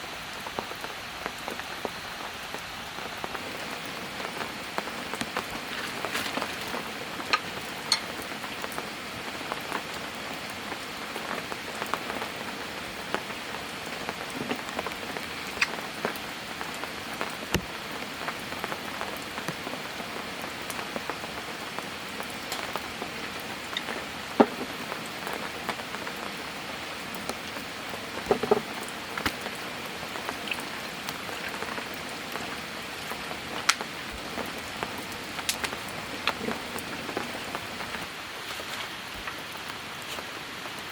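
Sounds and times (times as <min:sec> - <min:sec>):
raindrops striking nearby: 0:00.0 - 0:40.9
steady rain hiss: 0:00.0 - 0:40.9.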